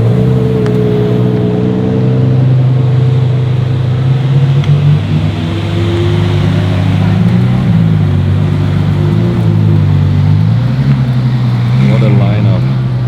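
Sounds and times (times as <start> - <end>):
car engines rolling past: 0.0 - 13.0.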